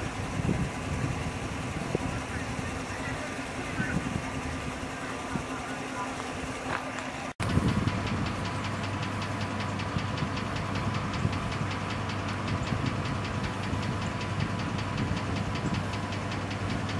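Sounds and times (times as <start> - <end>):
engine idling with ticking knock: 0.0 - 16.9.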